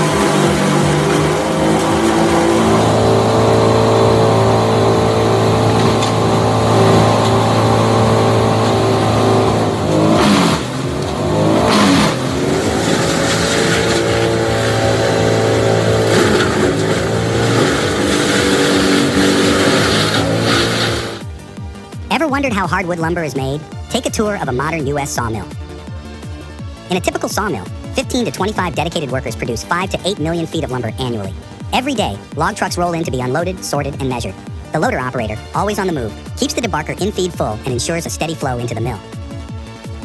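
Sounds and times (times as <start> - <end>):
wood chipper engine running: 0.0 - 40.0.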